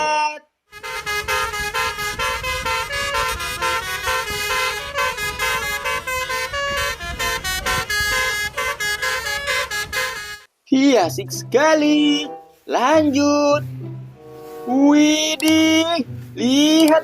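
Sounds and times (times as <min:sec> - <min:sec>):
musical bus horn tooting melody: 0:00.7 - 0:10.5, 0:11.2 - 0:16.5.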